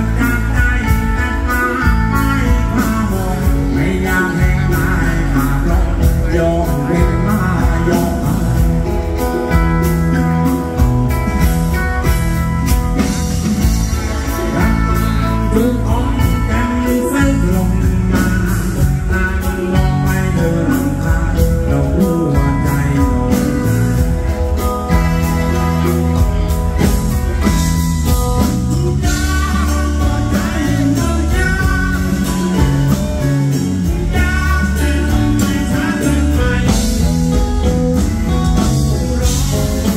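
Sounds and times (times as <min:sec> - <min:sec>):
person singing lead vocal: 0:00.0 - 0:12.2, 0:13.9 - 0:39.9
bass guitar: 0:00.0 - 0:39.9
drums: 0:00.0 - 0:39.9
electric guitar: 0:00.0 - 0:39.9
rock band playing: 0:00.0 - 0:39.9.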